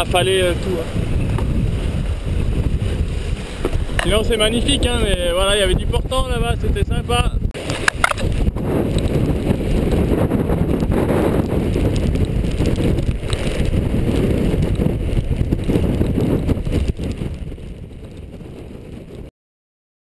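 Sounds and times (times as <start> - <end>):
rush of wind and sea: 0.0 - 19.3
wind buffeting microphone: 0.0 - 19.3.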